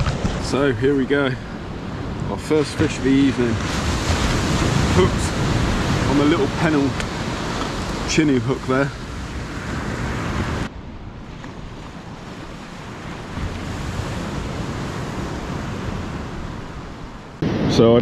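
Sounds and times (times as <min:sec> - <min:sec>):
surf on beach: 0:00.0 - 0:18.0
wind buffeting microphone: 0:00.0 - 0:18.0.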